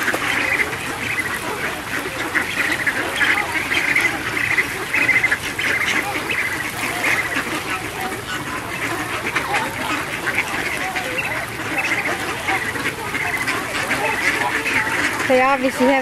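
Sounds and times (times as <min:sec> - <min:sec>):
ducks quacking: 0:00.0 - 0:16.0
flamingo honks: 0:00.0 - 0:16.0.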